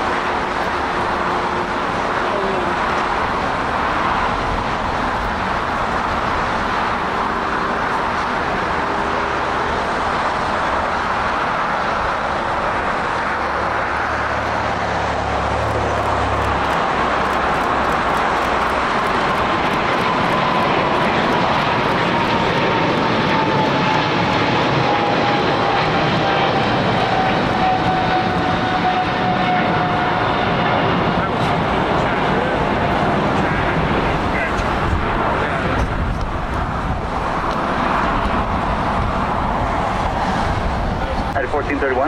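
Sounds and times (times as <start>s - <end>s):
jet engines roaring with whine: 0.0s - 42.0s.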